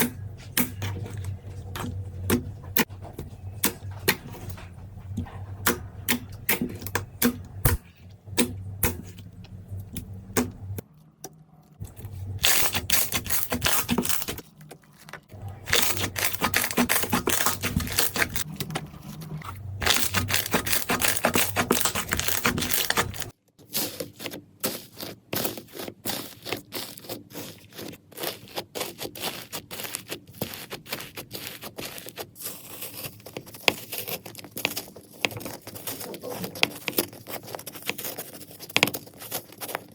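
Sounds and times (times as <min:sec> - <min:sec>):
slime squished by hands: 0:05.3 - 0:39.9.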